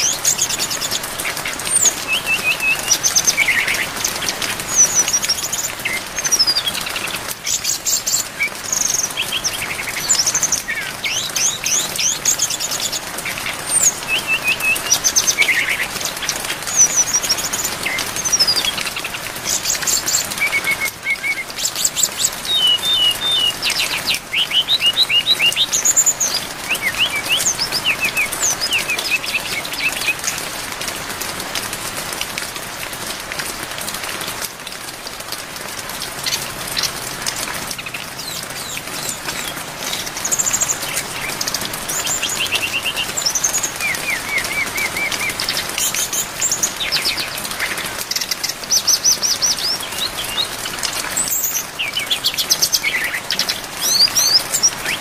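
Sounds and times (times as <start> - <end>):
bird singing chirps and trills: 0.0 - 30.6, 36.0 - 55.0
rain hiss: 0.0 - 55.0.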